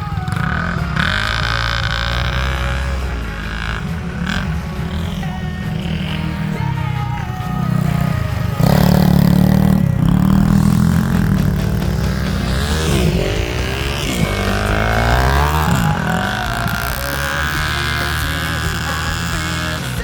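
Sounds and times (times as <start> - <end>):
off-road motorcycle engine revving: 0.0 - 20.0.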